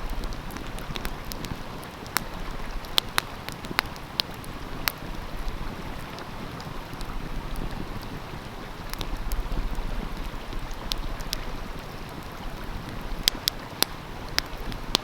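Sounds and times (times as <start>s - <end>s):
flowing stream: 0.0s - 15.0s
wood fire crackling: 0.0s - 15.0s.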